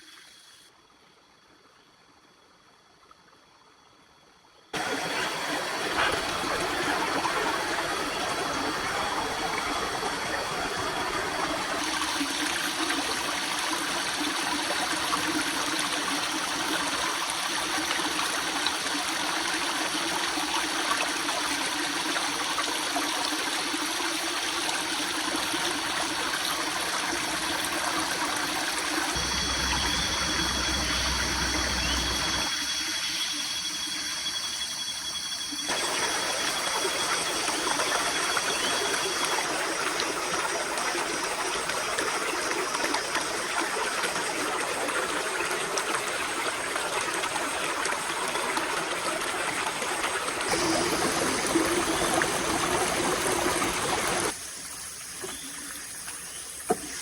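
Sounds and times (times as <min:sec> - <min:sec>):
running water rushing: 0:04.8 - 0:32.6, 0:35.7 - 0:57.0.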